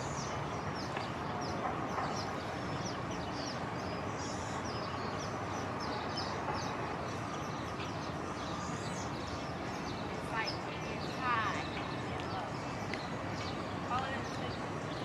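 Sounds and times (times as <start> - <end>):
small birds chirping: 0.0 - 15.0
steady outdoor noise: 0.0 - 15.0.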